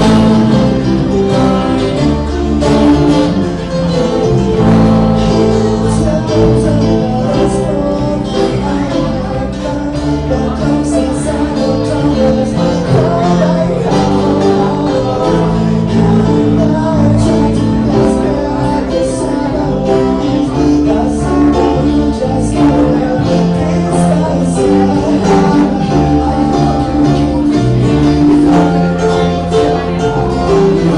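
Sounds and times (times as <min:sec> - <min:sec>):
band song with guitar and singing: 0:00.0 - 0:30.9.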